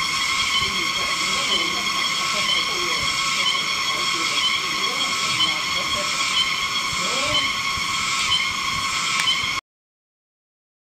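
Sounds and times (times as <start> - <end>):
forest insects buzzing: 0.0 - 9.6.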